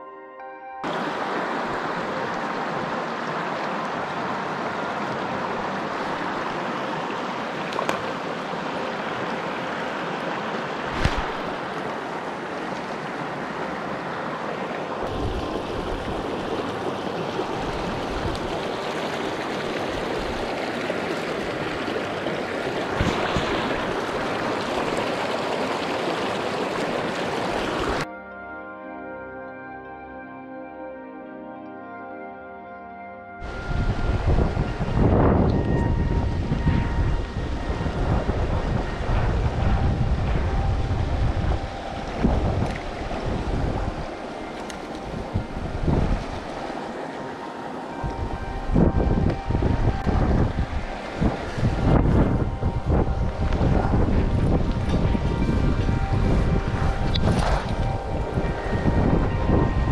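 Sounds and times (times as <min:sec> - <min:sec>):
creek babbling over rocks: 0:00.8 - 0:28.0, 0:37.2 - 0:59.9.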